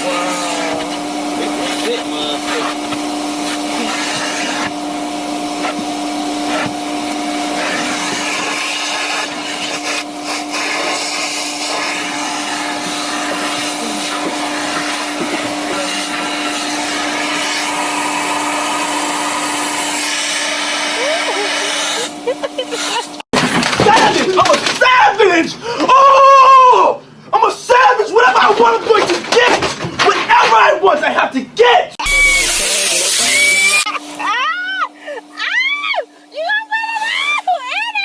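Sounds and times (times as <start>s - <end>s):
vacuum cleaner running: 0.0s - 24.8s, 32.0s - 38.0s.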